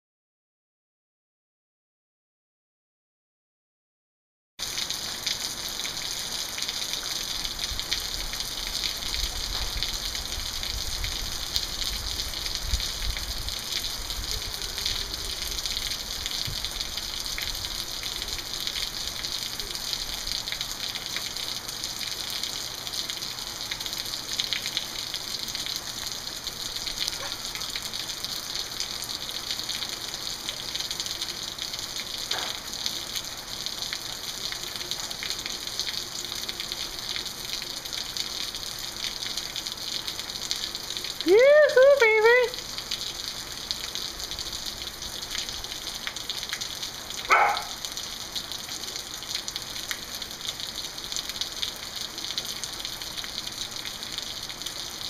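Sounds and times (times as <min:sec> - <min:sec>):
steady rain hissing: 0:04.6 - 0:55.0.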